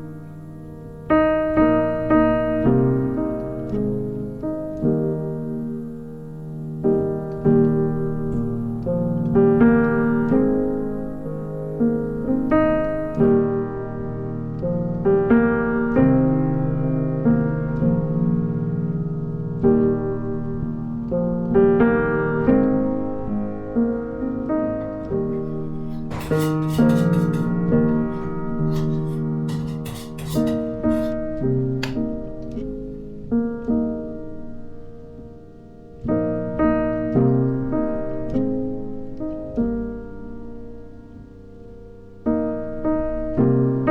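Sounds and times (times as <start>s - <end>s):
soft piano music: 0.0s - 43.9s.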